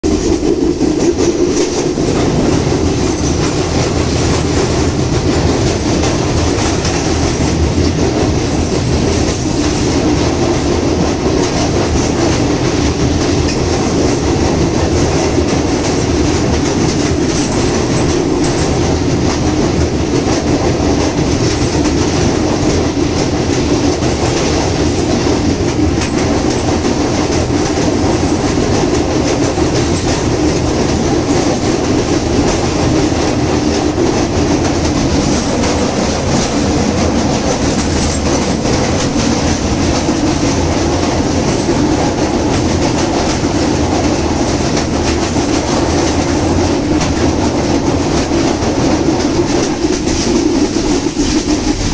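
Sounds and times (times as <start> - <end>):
train wheels rumbling on bridge: 0.0 - 51.9.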